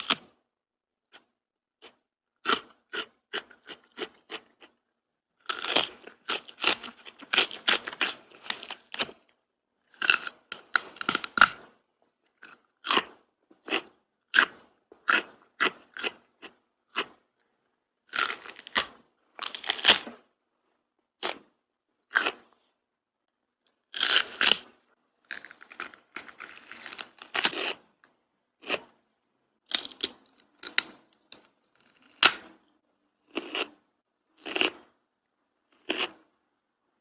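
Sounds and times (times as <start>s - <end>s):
crunchy food being chewed: 0.0s - 0.4s, 1.1s - 4.8s, 5.4s - 17.5s, 18.1s - 20.3s, 21.2s - 22.6s, 23.6s - 29.0s, 29.6s - 33.8s, 34.4s - 35.0s, 35.7s - 36.3s.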